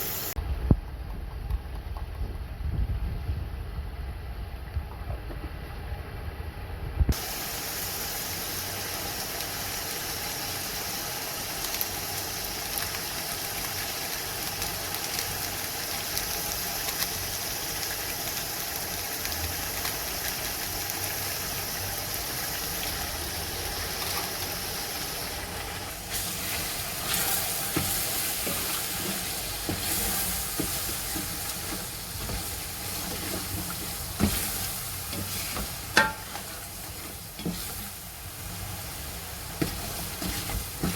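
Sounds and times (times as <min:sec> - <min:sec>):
food sizzling in hot oil: 0:00.0 - 0:00.4, 0:07.1 - 0:40.9.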